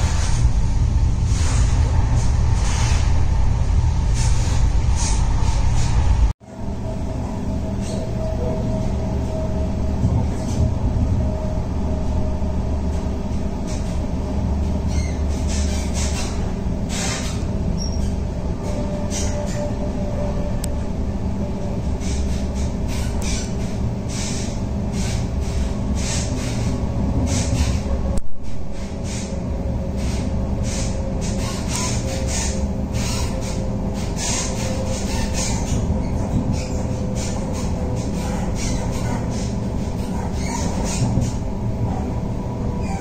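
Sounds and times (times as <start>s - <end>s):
train clicks and knocks: 0.0s - 6.4s, 7.1s - 43.0s
train rumble inside carriage: 0.0s - 43.0s.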